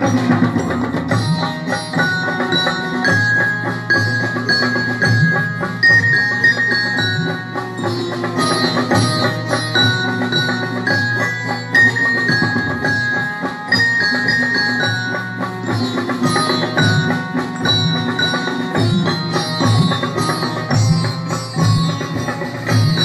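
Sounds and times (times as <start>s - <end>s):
dholak: 0.0s - 23.0s
drums: 0.0s - 23.0s
harmonium: 0.0s - 23.0s
sitars: 0.0s - 23.0s
tabla: 0.0s - 23.0s
xylophone: 0.0s - 23.0s.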